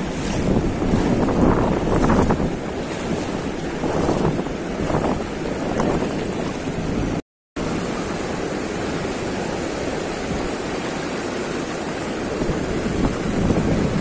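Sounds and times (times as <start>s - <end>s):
river rushing over weir: 0.0s - 14.0s.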